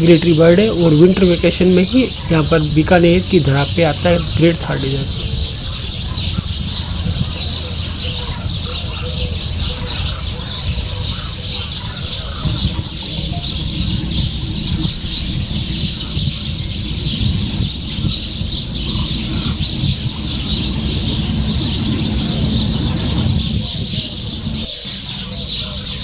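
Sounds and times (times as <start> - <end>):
steady low rumble: 0.0 - 24.7
chorus of birds chirping: 0.0 - 26.0.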